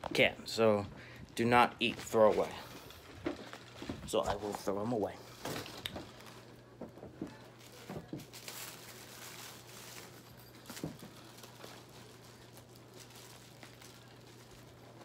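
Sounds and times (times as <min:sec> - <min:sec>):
packaging rustling: 0:01.4 - 0:15.0.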